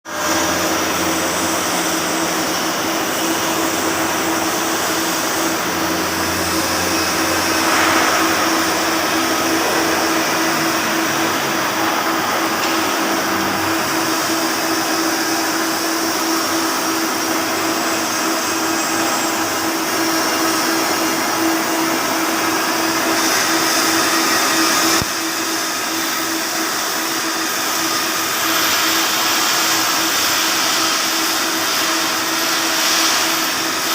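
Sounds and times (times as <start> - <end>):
steady hum: 0.1 - 33.9
welding arc hiss and crackle: 0.1 - 33.9.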